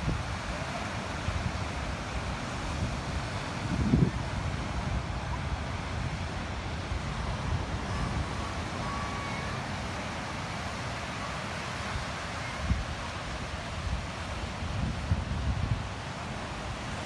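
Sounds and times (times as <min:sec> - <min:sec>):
wind buffeting microphone: 0:00.0 - 0:10.7, 0:11.8 - 0:17.0
small waves breaking: 0:00.0 - 0:17.0.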